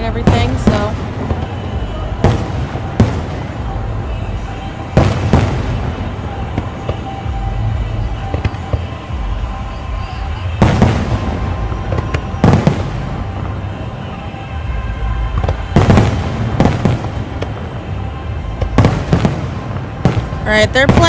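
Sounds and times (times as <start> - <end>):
fireworks bursting bangs: 0.0 - 21.0
music playing: 0.0 - 21.0.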